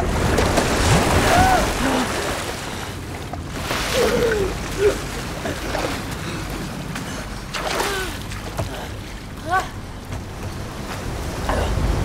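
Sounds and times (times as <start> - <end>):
floodwater splashing: 0.0 - 12.0.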